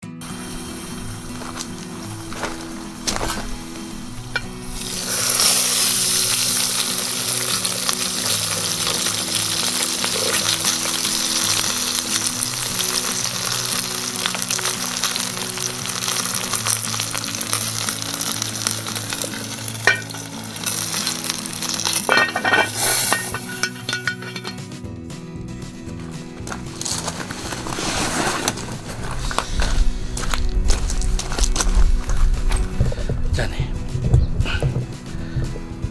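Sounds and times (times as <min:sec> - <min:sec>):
soft background music: 0:00.0 - 0:35.9
sizzling hiss with crackles: 0:00.1 - 0:24.8, 0:26.0 - 0:35.6.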